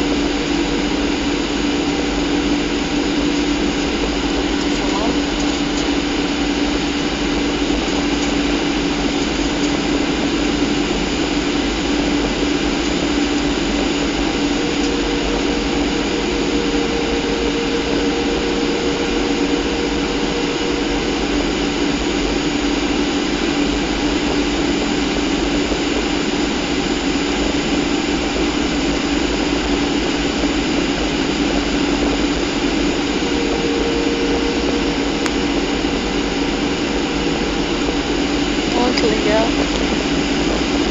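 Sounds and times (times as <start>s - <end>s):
jet engines rushing in cabin: 0.0s - 40.9s.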